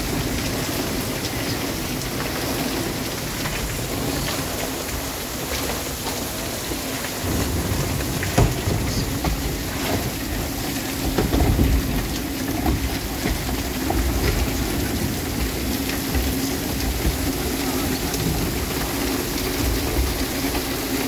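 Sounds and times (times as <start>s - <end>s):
heavy rain on water and roof: 0.0s - 21.0s
low rumbling: 0.0s - 21.0s.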